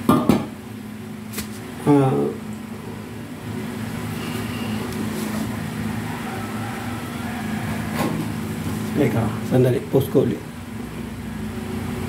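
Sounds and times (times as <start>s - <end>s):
refrigerator compressor humming: 0.0s - 12.0s.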